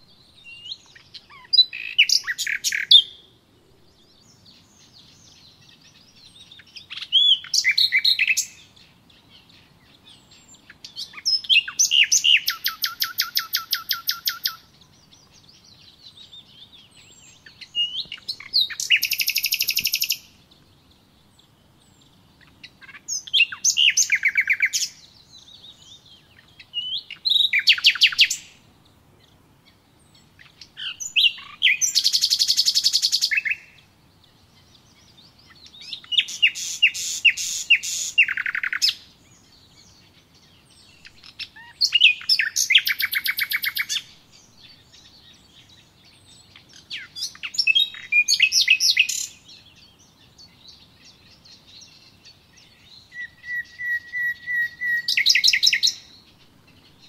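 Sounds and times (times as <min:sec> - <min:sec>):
songbird trilling: 0:00.0 - 0:03.4, 0:04.0 - 0:57.0.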